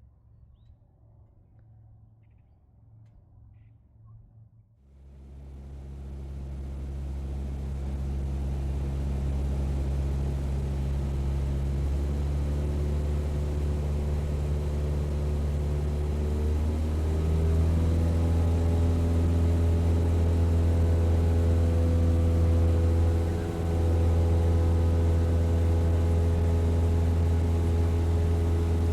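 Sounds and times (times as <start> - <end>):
car engine droning: 5.0 - 28.9.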